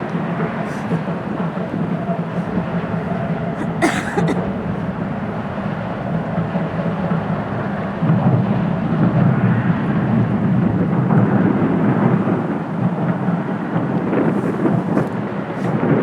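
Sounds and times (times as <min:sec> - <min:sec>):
ship machinery rumble: 0:00.0 - 0:16.0.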